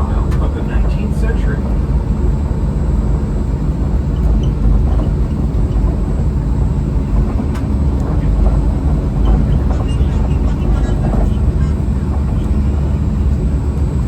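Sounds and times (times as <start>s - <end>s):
monorail low rumble: 0.0s - 14.0s.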